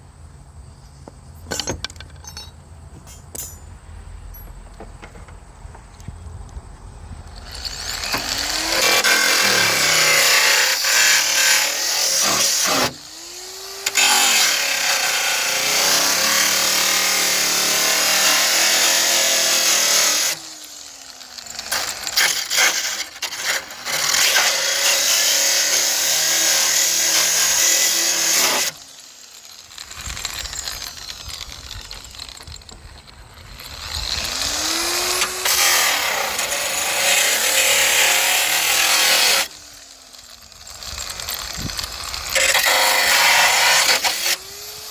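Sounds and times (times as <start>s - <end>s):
angle grinder cutting metal: 7.3s - 44.9s.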